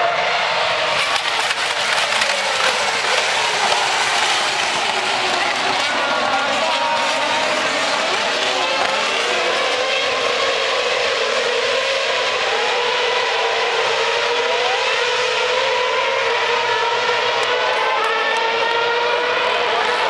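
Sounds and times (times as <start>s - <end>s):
racing cars accelerating: 0.0s - 20.0s.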